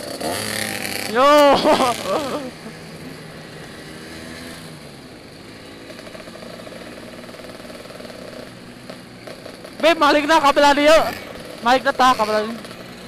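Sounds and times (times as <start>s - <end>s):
road and wind noise: 0.0s - 13.0s
scooter engine running: 0.0s - 13.0s.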